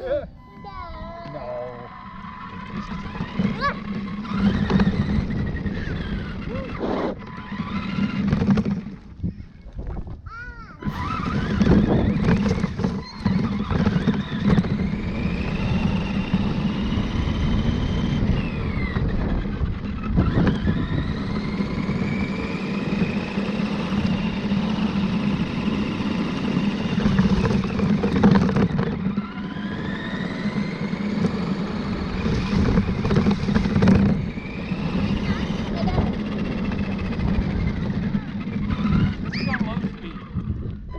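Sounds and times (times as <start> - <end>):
toy truck motor whining: 0.0 - 9.7, 10.8 - 40.9
rumble of tyres and drivetrain: 0.0 - 40.9.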